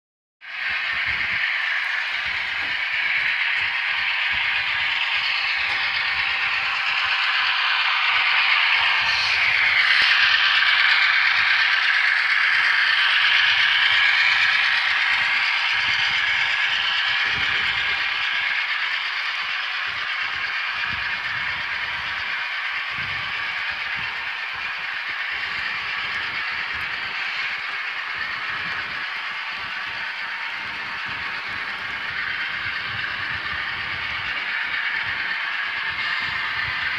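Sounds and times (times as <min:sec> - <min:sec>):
model train motors whirring: 0:00.4 - 0:36.9
wheels rattling on rails: 0:00.4 - 0:36.9.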